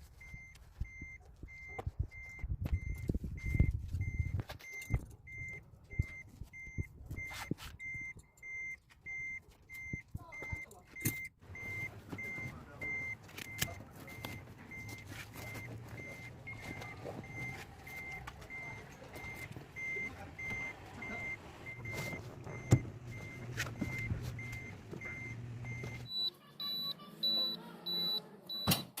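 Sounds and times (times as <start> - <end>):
high-pitched beep: 0.2 - 28.9
electronic warning beeps: 0.2 - 29.0.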